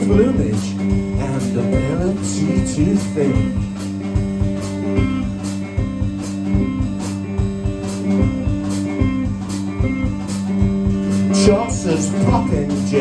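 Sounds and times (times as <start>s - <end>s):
guitar playing: 0.0s - 13.0s
percussion steady beat: 0.0s - 13.0s.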